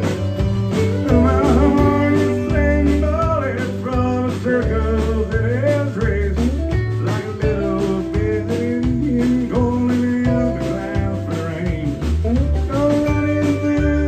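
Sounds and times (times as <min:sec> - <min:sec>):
bass notes: 0:00.0 - 0:14.0
fiddle: 0:00.0 - 0:14.0
strummed acoustic guitar: 0:00.0 - 0:14.0
man singing: 0:00.9 - 0:14.0.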